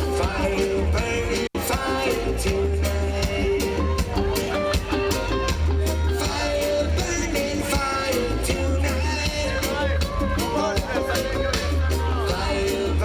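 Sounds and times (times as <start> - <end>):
drums steady beat: 0.0 - 13.0
heavy bass line: 0.0 - 13.0
reggae band playing live: 0.0 - 13.0.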